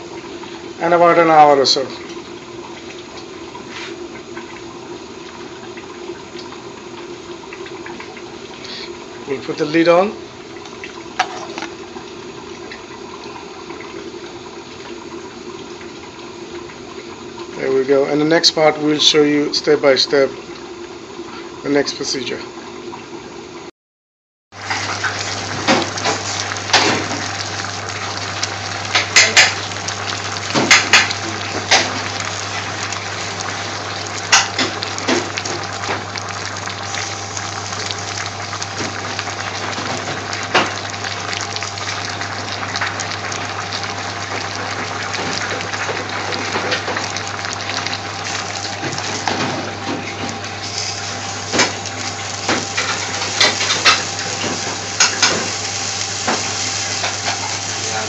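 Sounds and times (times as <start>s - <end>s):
water boiling and bubbling: 0.0s - 23.7s, 24.5s - 58.0s.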